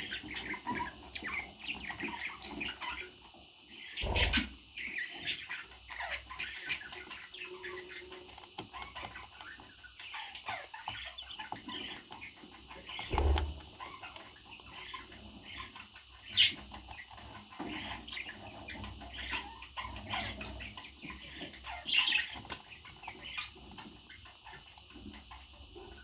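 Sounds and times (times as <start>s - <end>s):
parrot chirping and squawking: 3.8s - 24.8s.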